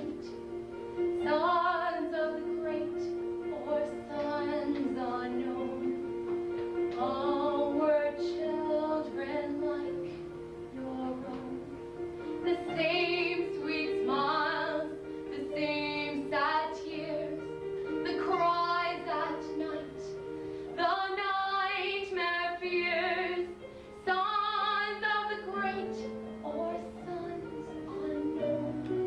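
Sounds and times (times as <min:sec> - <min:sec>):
woman singing slow song: 0:01.2 - 0:06.0, 0:06.9 - 0:11.8, 0:12.4 - 0:20.2, 0:20.8 - 0:29.0.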